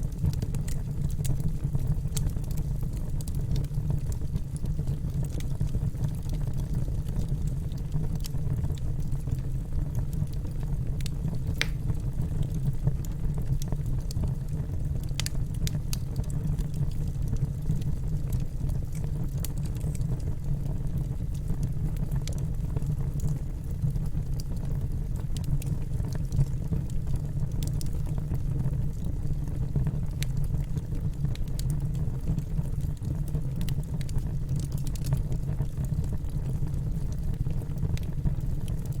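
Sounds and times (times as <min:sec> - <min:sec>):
burning wood crackling and popping: 0:00.0 - 0:39.0.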